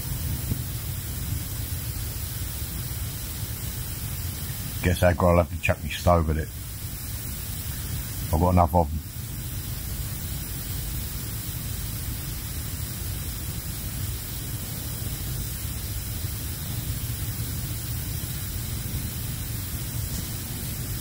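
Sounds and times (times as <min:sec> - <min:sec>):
gas stove burner hissing: 0:00.0 - 0:21.0.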